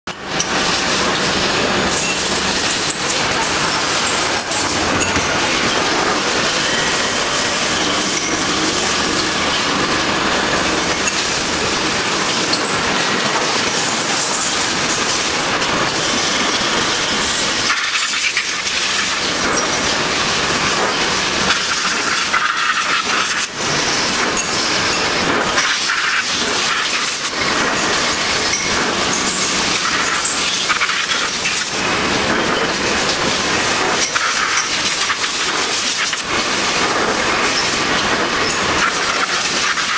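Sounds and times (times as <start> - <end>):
lathe cutting with coolant hiss: 0.1 - 39.9.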